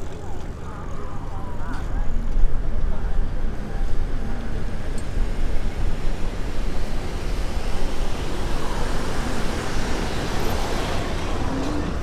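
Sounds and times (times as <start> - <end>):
bicycles rolling on road: 2.2 - 12.0.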